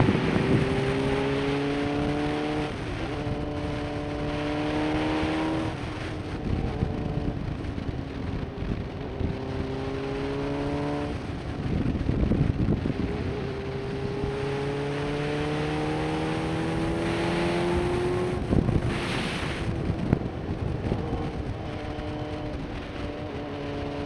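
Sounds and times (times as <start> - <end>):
motorcycle engine accelerating: 0.0 - 24.0
wind rush: 0.0 - 24.0.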